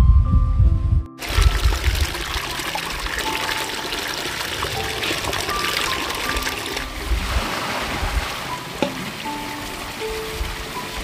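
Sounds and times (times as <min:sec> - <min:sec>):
background music held notes: 0:00.0 - 0:11.0
water trickling: 0:01.2 - 0:11.0.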